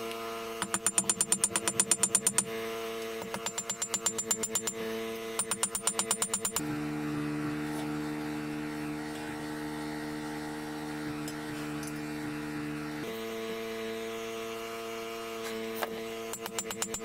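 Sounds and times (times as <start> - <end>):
hum of held tones: 0.0 - 17.0.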